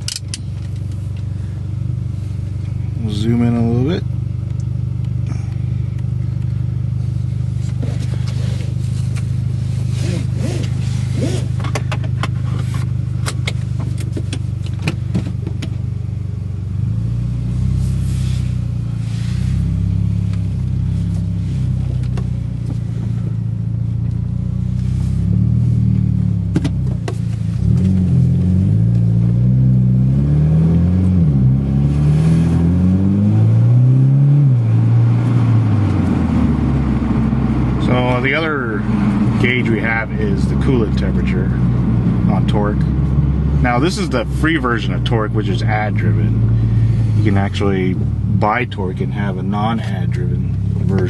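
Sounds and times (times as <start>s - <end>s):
car engine from inside cabin: 0.0s - 51.0s.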